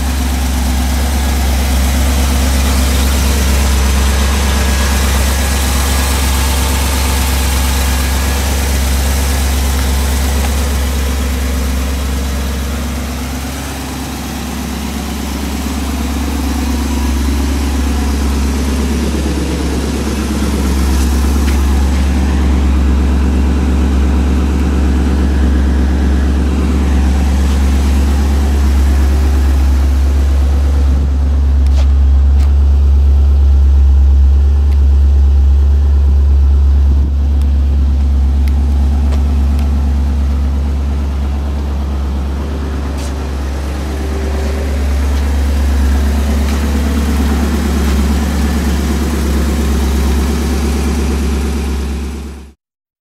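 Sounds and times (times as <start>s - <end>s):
car engine idling: 0.0s - 52.6s.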